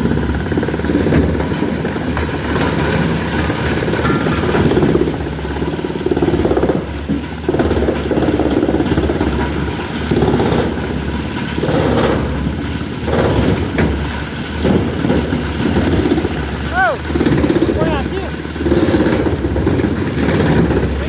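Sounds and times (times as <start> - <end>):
engine surging under load: 0.0 - 21.0.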